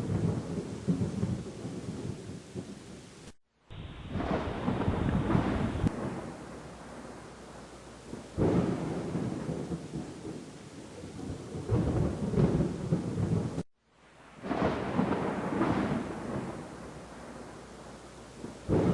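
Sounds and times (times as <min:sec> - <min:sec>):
thunder clap and rumble: 0:00.0 - 0:03.0, 0:03.7 - 0:13.6, 0:14.4 - 0:18.9
rain hissing: 0:00.0 - 0:18.9.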